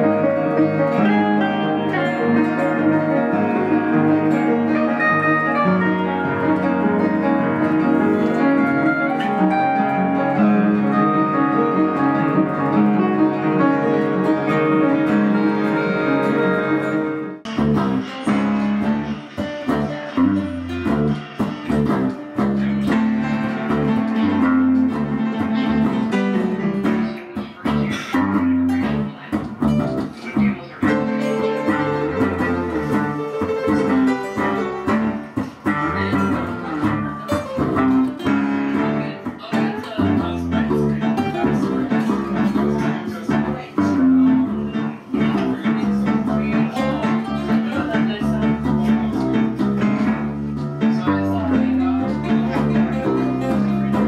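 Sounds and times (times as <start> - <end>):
plucked guitar music: 0.0 - 54.0.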